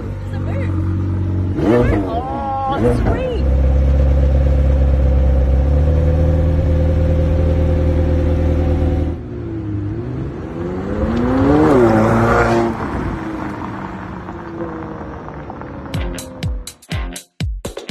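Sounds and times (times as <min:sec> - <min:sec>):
car engine revving: 0:00.0 - 0:16.7.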